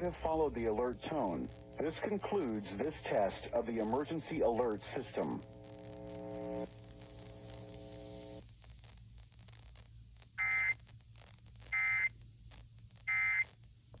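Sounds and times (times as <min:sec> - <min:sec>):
low steady buzz: 0:00.0 - 0:14.0.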